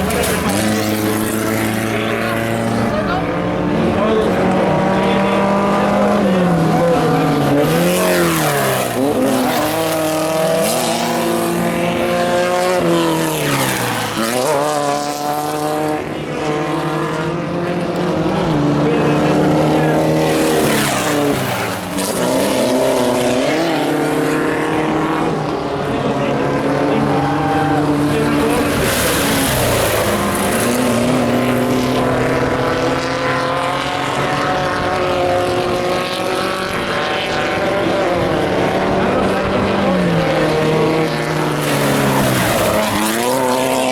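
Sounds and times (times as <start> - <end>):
race vehicle engines revving and passing: 0.0 - 43.9.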